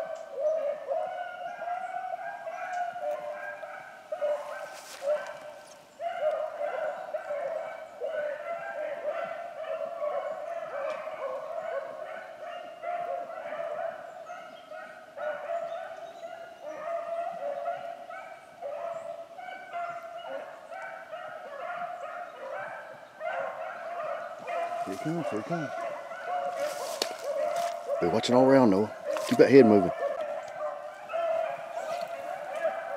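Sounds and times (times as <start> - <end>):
dogs baying and yelping: 0.0 - 32.9.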